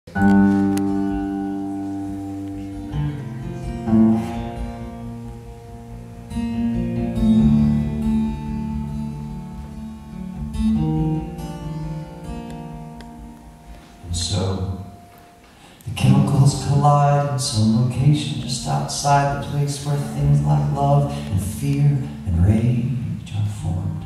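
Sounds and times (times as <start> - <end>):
acoustic guitar chords ringing: 0.1 - 24.0.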